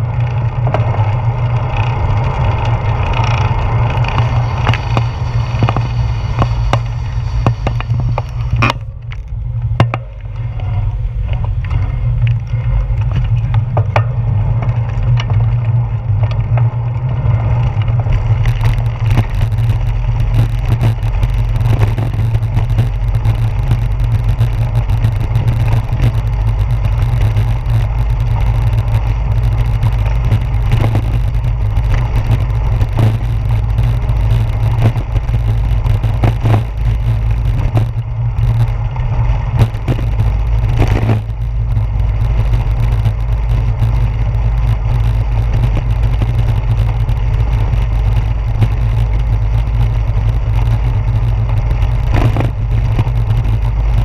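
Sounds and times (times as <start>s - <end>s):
bicycle rolling over bricks: 0.0s - 54.0s.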